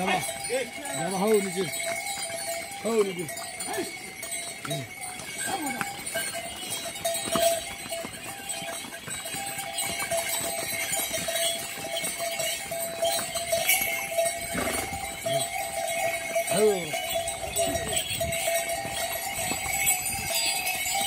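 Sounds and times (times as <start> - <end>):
hooves on stone paving: 0.0 - 21.0
mule bells jingling: 0.0 - 21.0.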